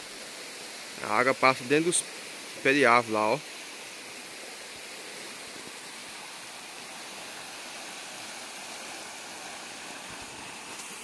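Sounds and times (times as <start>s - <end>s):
flooded river rushing: 0.0s - 11.0s.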